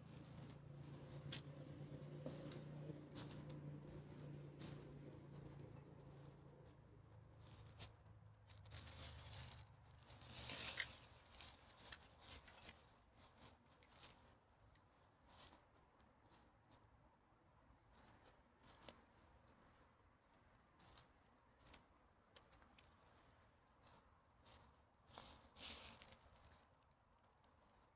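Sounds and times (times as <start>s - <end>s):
rustling of dry debris: 0.0s - 1.5s, 2.1s - 17.0s, 17.9s - 27.9s.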